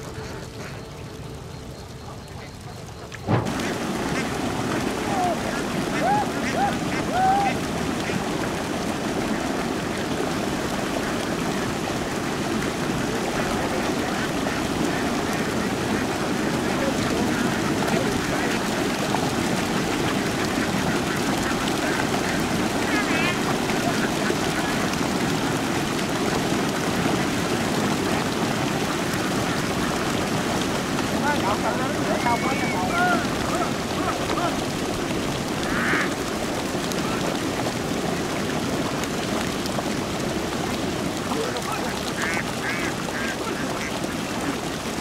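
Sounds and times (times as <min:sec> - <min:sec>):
ducks quacking and splashing: 0:00.0 - 0:45.0.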